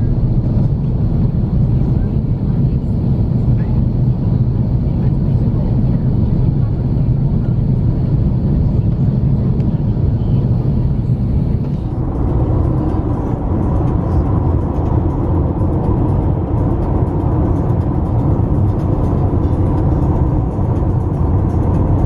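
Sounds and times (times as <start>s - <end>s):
airliner cabin rumble: 0.0s - 22.0s
moving car road and engine noise: 0.0s - 22.0s.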